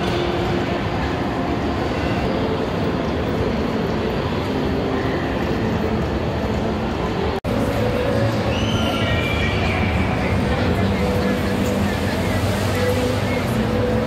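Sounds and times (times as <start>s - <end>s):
indoor hall rumble and hiss: 0.0s - 14.0s.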